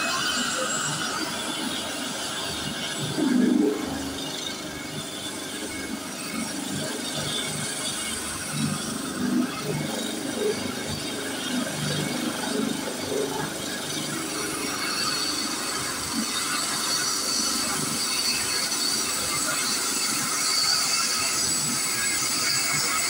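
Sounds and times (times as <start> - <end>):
helicopter engine and rotor rush: 0.0 - 23.0
helicopter turbine whine: 0.0 - 23.0.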